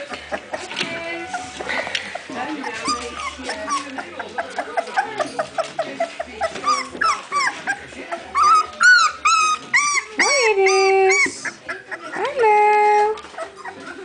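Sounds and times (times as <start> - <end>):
puppies whining: 0.0 - 14.0
puppies yipping: 0.0 - 14.0.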